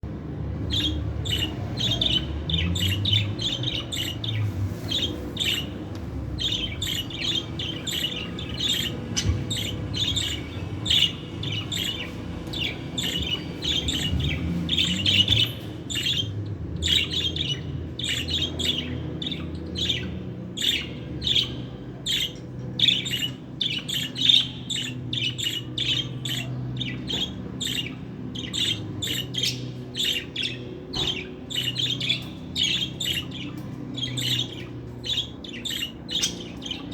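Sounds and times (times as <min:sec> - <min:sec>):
budgerigar chirping: 0:00.7 - 0:05.8, 0:06.4 - 0:36.9.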